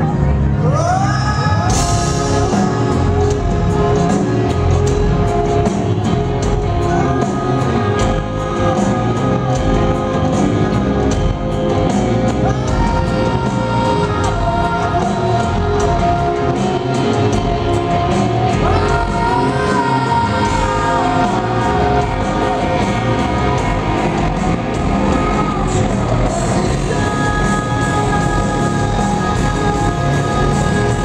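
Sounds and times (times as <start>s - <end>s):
live rock band playing: 0.0s - 31.0s
person singing: 0.0s - 31.0s.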